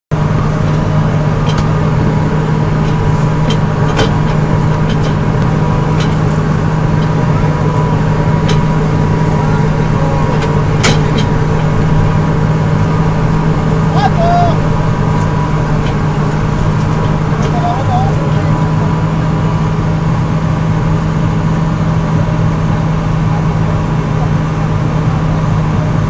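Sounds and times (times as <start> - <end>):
vehicle engine droning: 0.1 - 26.0.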